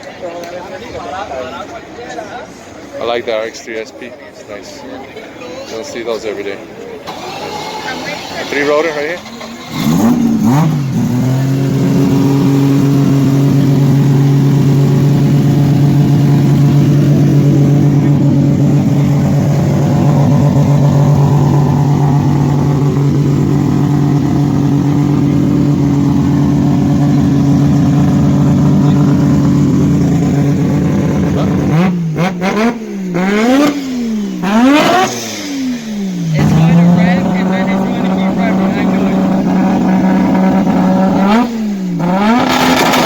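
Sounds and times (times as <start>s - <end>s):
rotary engine revving: 7.0s - 43.0s.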